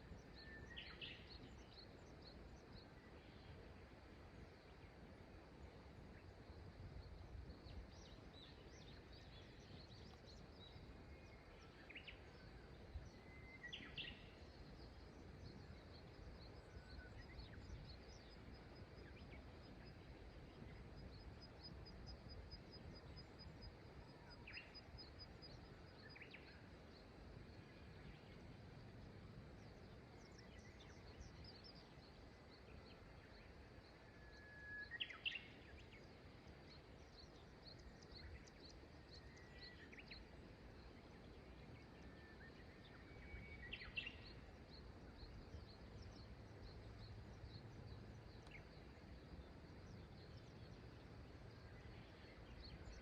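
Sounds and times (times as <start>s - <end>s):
faint river: 0.0s - 53.0s.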